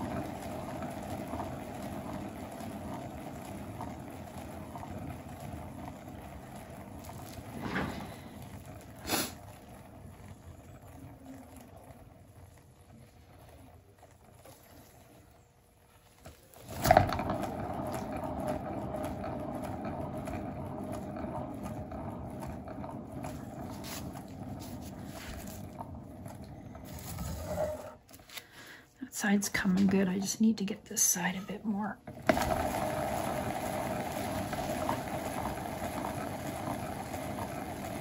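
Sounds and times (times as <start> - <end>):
spinner low whirr: 0.0 - 28.4, 29.3 - 38.0.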